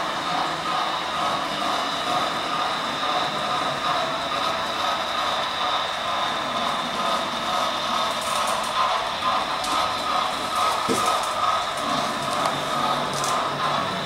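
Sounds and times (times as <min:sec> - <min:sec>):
model train whine and rolling: 0:00.0 - 0:14.0.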